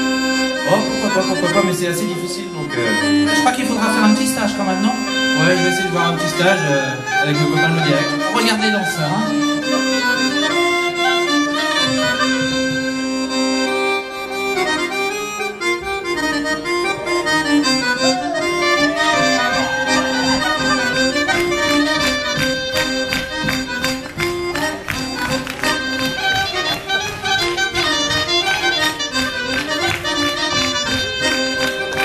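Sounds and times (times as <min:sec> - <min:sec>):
accordion dance tune: 0:00.0 - 0:32.0.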